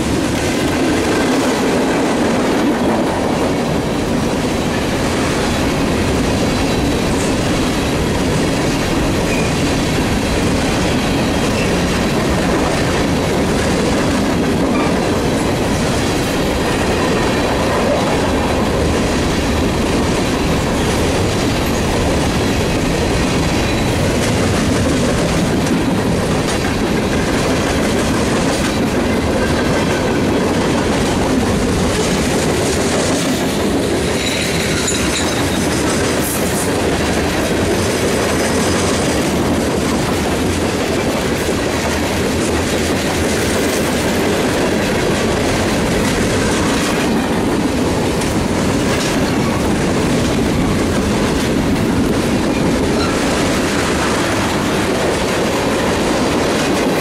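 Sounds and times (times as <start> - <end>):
steel wheels rolling on rails: 0.0 - 57.0.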